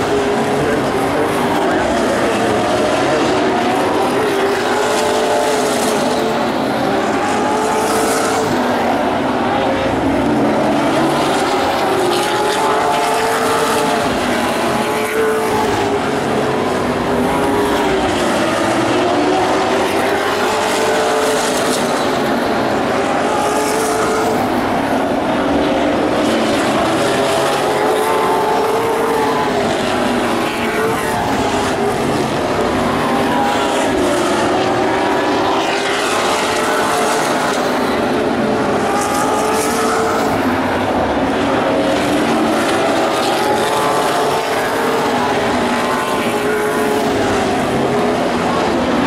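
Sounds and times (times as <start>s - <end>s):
race car engines: 0.0s - 49.0s.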